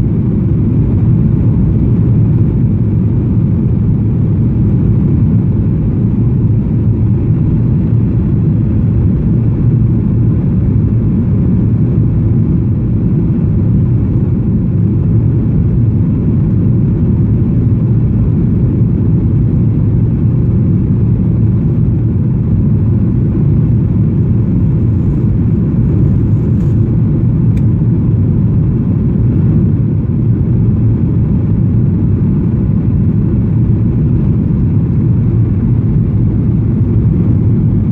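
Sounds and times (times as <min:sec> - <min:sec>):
airliner cabin engine noise: 0:00.0 - 0:37.9.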